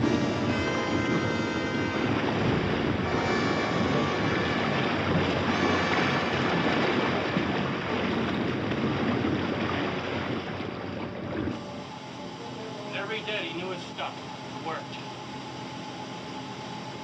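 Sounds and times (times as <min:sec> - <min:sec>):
sea water and surf roaring: 0:00.0 - 0:14.9.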